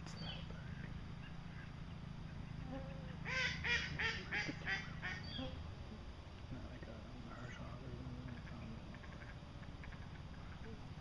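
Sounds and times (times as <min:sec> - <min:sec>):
low background rumble: 0:00.0 - 0:11.0
waterfowl calling: 0:00.3 - 0:05.6, 0:07.3 - 0:11.0.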